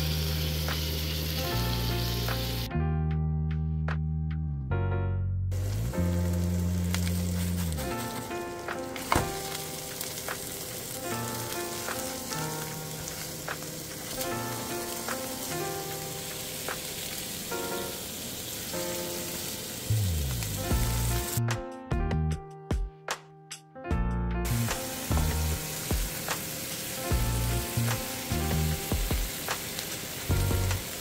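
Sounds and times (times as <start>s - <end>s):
food frying with sizzling: 0.0s - 2.7s, 5.6s - 21.5s, 24.5s - 31.0s
background music: 0.0s - 31.0s.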